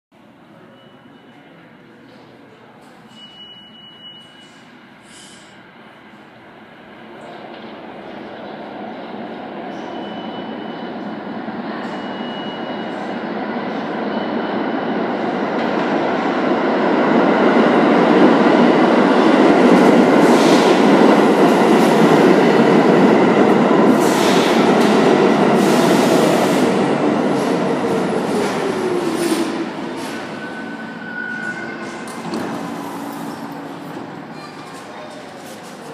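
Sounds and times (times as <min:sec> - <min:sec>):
subway train rumble: 0:00.2 - 0:35.9.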